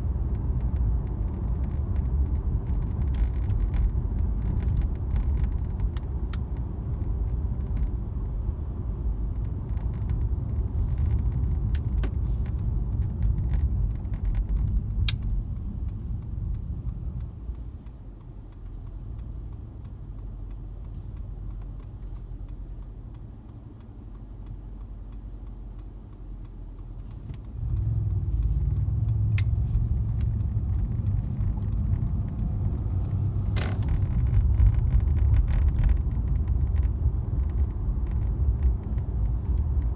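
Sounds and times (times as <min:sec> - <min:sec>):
road and drivetrain rumble: 0:00.0 - 0:39.9.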